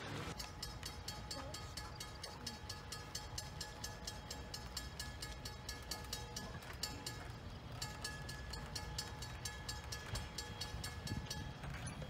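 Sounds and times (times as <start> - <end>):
railroad crossing bell ringing: 0.3 - 12.0.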